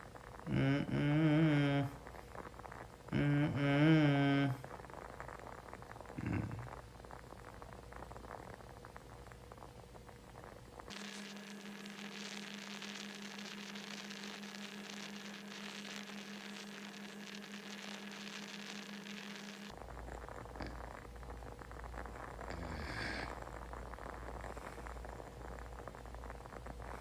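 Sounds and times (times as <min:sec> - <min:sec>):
hiss and static: 0:00.0 - 0:27.0
low steady hum: 0:00.0 - 0:27.0.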